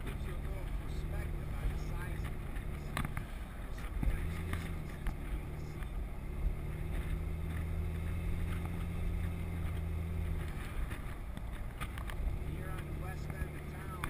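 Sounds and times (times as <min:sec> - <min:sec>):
car engine droning: 0:00.0 - 0:14.0
road and wind noise: 0:00.0 - 0:14.0.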